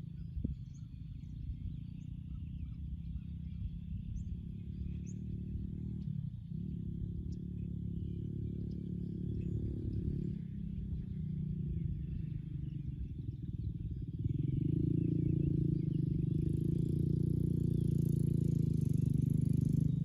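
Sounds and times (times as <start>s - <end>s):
atv engine rumbling: 0.0s - 20.0s.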